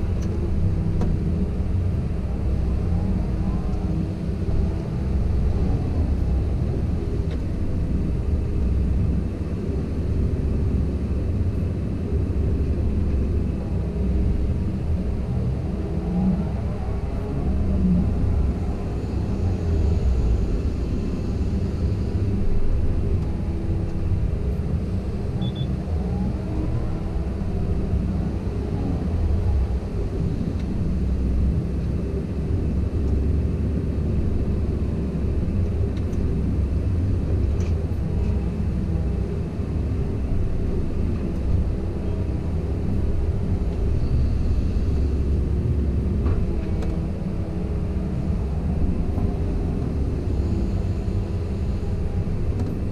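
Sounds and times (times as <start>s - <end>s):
excavator diesel engine: 0.0s - 52.9s.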